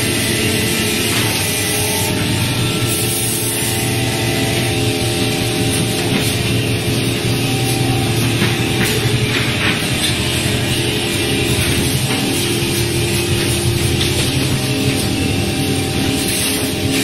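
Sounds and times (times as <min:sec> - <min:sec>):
machinery running with motor hum: 0:00.0 - 0:17.0.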